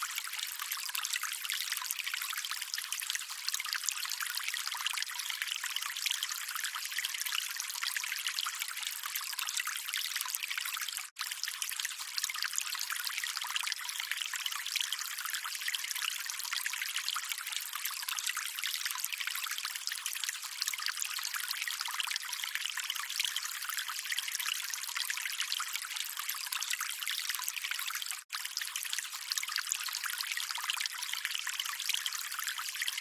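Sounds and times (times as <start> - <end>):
water trickling: 0.0 - 33.0.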